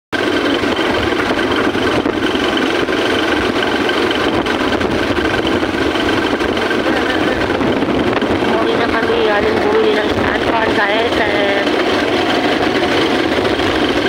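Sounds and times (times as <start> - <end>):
faint steady whine: 0.2 - 14.0
vehicle engine and road noise: 0.2 - 14.0.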